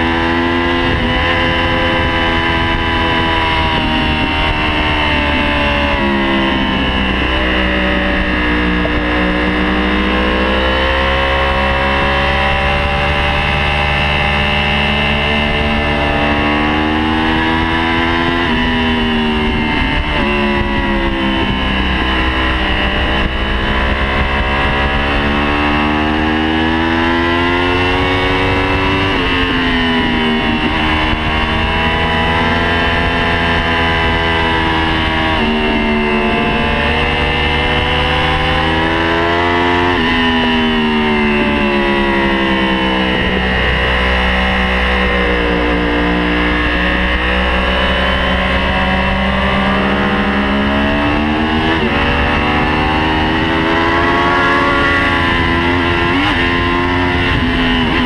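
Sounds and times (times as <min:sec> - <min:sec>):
motorcycle engine at speed: 0:00.0 - 0:58.0.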